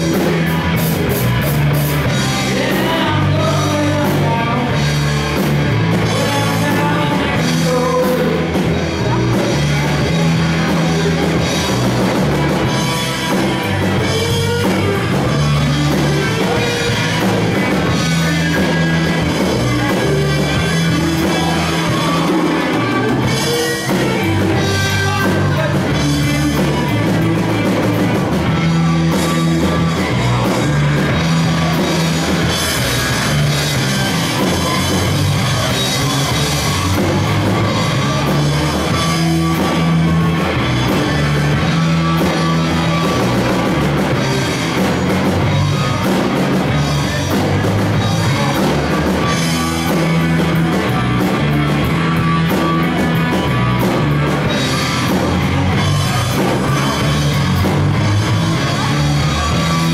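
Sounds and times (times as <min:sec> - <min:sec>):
bass guitar: 0:00.0 - 0:59.9
drum kit: 0:00.0 - 0:59.9
electric guitars: 0:00.0 - 0:59.9.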